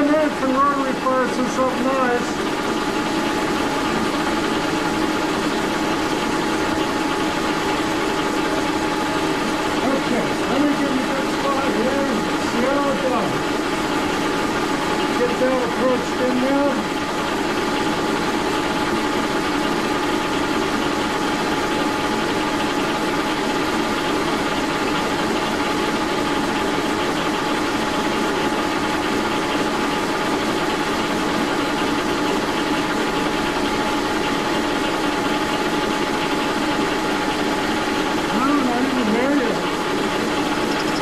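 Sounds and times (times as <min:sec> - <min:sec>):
milling machine drone with whine: 0:00.0 - 0:41.0.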